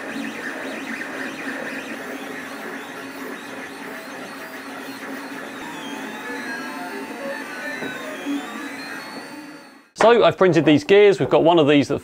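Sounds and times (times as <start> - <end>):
stepper motors whirring: 0.0 - 10.0.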